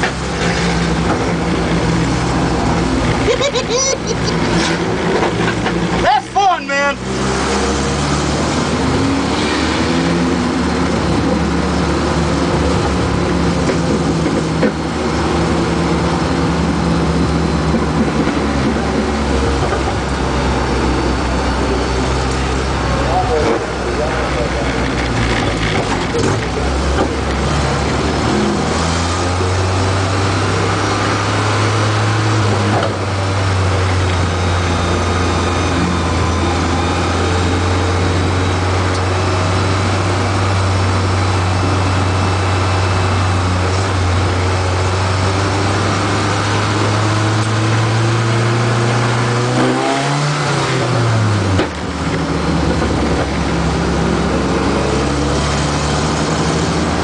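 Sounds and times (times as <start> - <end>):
truck engine from inside cab: 0.0 - 57.0.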